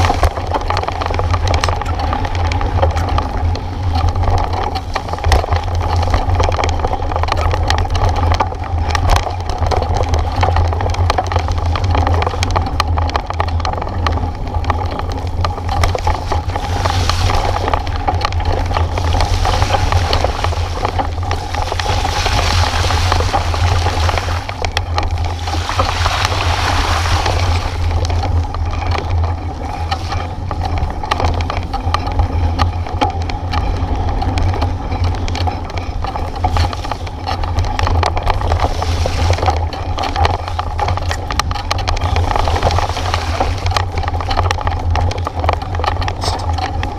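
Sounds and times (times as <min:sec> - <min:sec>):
bike rolling noise: 0:00.0 - 0:46.9
wind buffeting microphone: 0:00.0 - 0:46.9.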